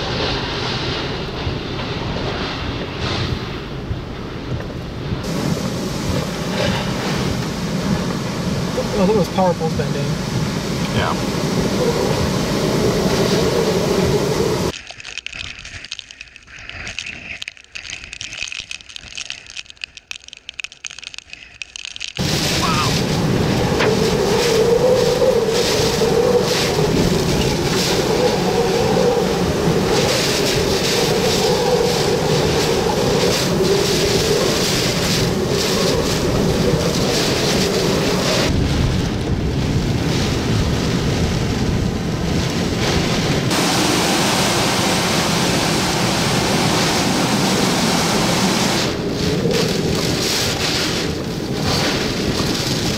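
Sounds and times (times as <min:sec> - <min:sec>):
driving rain: 0:00.0 - 0:52.9
hurricane wind howling: 0:00.0 - 0:52.9.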